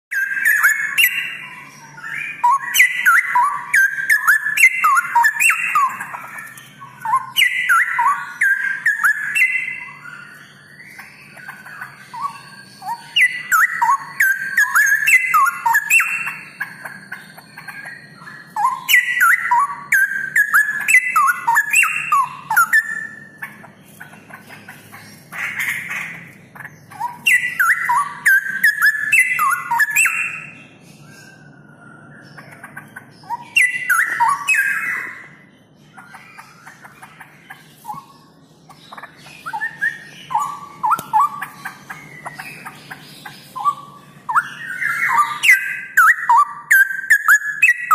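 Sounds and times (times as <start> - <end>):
bird singing whistled song: 0.1 - 47.9.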